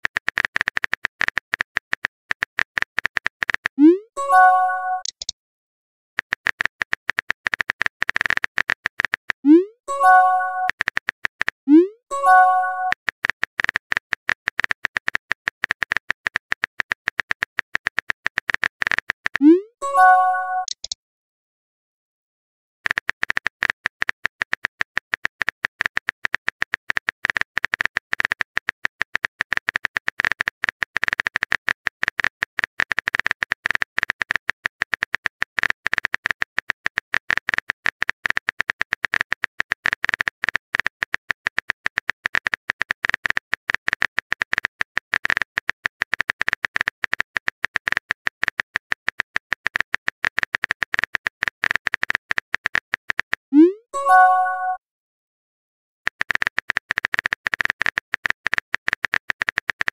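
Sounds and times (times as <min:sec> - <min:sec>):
rapid keyboard typing clicks: 0:00.0 - 0:05.3, 0:06.2 - 0:11.6, 0:12.2 - 0:21.0, 0:22.8 - 0:53.5, 0:56.1 - 0:59.9.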